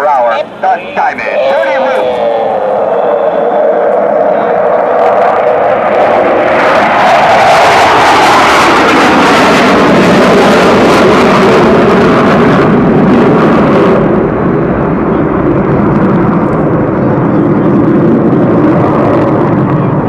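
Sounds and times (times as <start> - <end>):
jet roar: 0.0 - 20.0.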